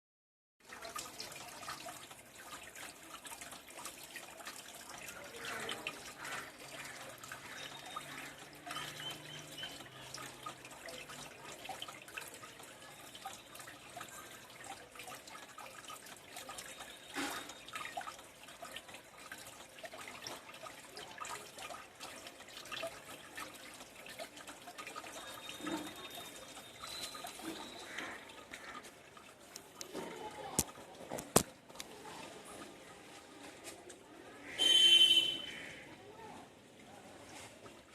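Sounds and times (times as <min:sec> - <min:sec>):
fountain water trickling and splashing: 0:00.6 - 0:37.9.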